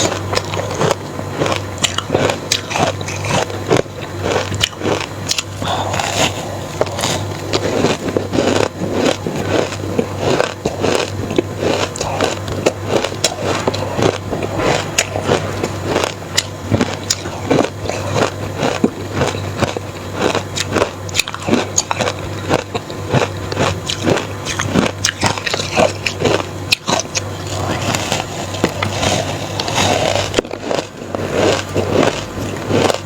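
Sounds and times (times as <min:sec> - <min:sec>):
crushed ice crunching when chewed: 0:00.0 - 0:33.0.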